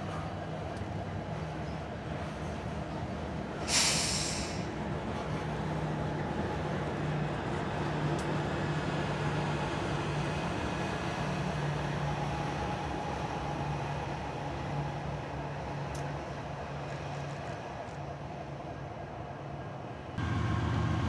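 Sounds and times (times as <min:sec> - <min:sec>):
low diesel hum: 0:00.0 - 0:19.0, 0:20.2 - 0:21.0
train wheels rumbling on rails: 0:00.0 - 0:21.0.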